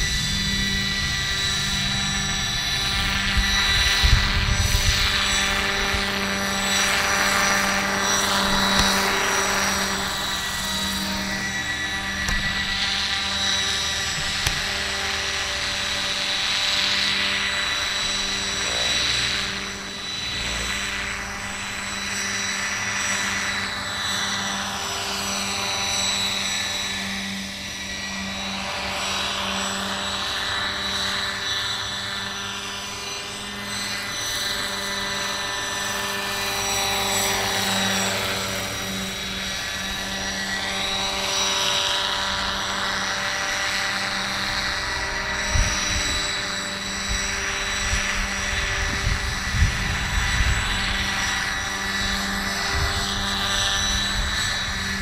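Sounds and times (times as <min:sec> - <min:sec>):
model helicopter rotor beat: 0:00.0 - 0:55.0.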